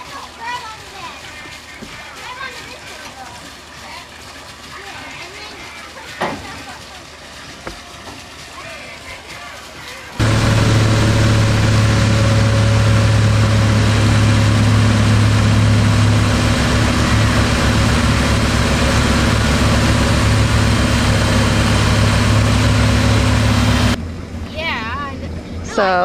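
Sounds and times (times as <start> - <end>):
rush of water and air: 0.0 - 24.8
motorboat engine running: 0.0 - 26.0.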